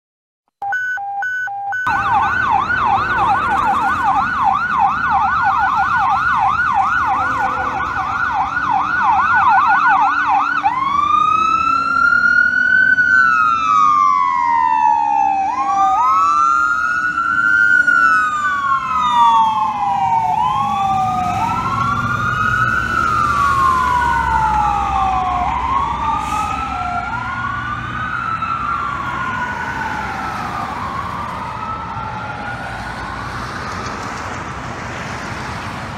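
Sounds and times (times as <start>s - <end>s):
second siren wailing: 0.6s - 34.1s
emergency siren yelp and wail: 0.6s - 35.9s
traffic noise: 0.6s - 35.9s.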